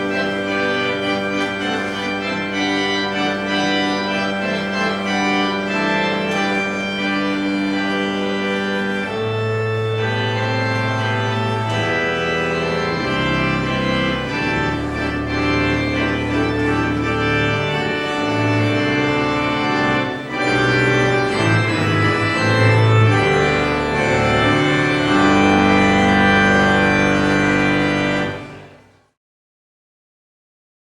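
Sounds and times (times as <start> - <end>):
church organ chords: 0.0 - 29.2.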